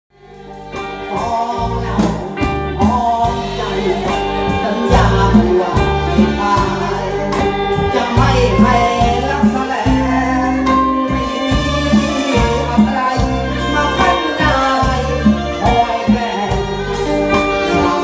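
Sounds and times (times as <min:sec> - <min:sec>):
bass line: 0:00.1 - 0:18.0
live band playing: 0:00.1 - 0:18.0
melodic lead lines: 0:00.2 - 0:18.0.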